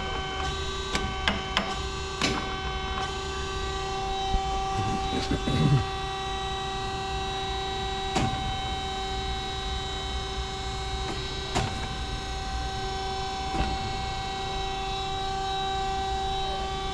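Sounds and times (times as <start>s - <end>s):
band saw humming and whining: 0.0s - 16.9s.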